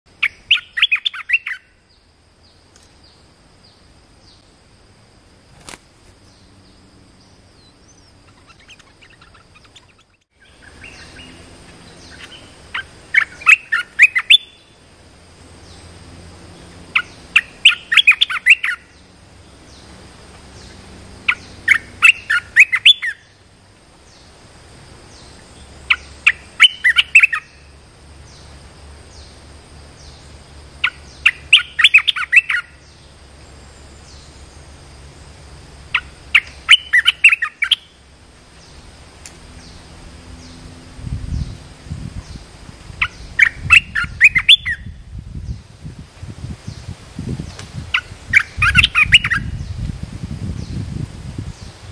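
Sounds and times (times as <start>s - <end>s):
songbird rapid chirping: 0.1s - 4.6s, 5.4s - 51.9s
high insect drone: 0.1s - 51.9s.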